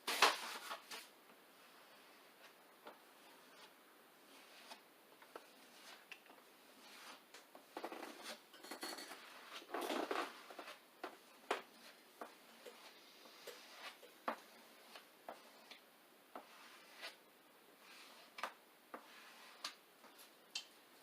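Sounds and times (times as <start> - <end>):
plastic spatula scraping vinyl: 0.1 - 17.2, 17.8 - 20.4.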